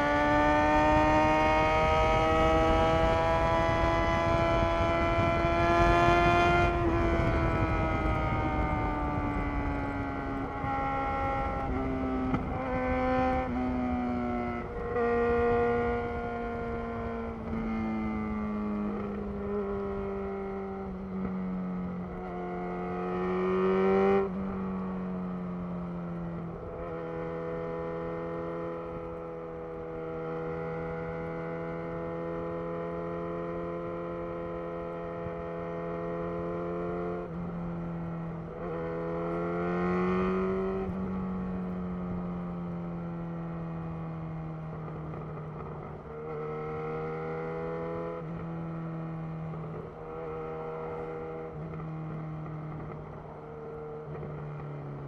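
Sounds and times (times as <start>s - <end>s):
motorcycle engine revving: 0.0s - 24.9s, 26.1s - 55.0s.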